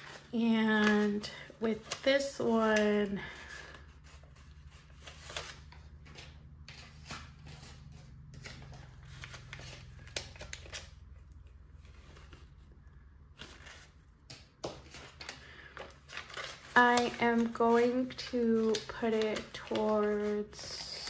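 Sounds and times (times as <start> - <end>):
paper banknotes rustling: 0.0 - 21.0.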